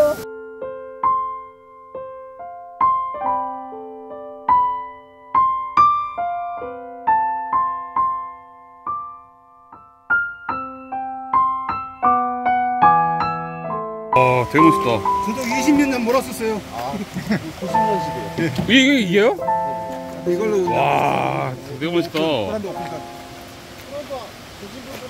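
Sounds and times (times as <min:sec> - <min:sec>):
gentle piano melody: 0:00.0 - 0:25.0.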